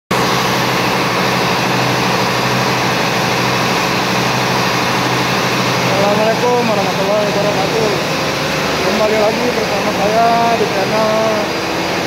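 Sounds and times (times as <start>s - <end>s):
diesel generators droning: 0.1s - 12.0s.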